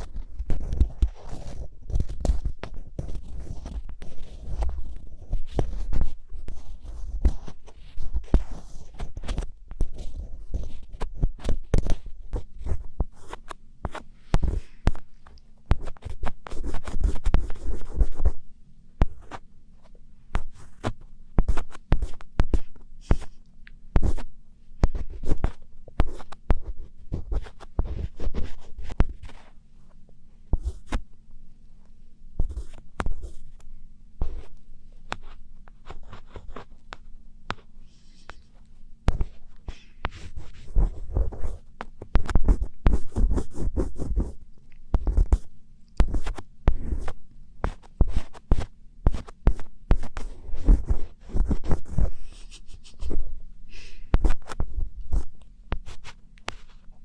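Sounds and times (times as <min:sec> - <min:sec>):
scratching on microphone: 0:00.0 - 0:18.4, 0:19.0 - 0:23.4, 0:24.0 - 0:29.6, 0:30.5 - 0:31.0, 0:32.4 - 0:33.6, 0:34.2 - 0:57.0.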